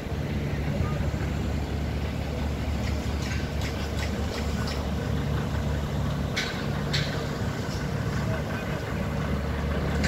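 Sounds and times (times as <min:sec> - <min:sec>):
heavy engine running: 0:00.0 - 0:10.0.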